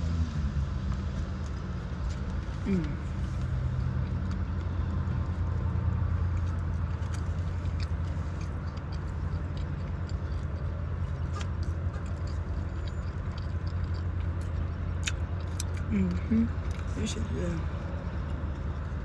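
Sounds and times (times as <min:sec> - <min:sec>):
car engine hum from inside: 0:00.0 - 0:19.0
person chewing food: 0:00.1 - 0:19.0.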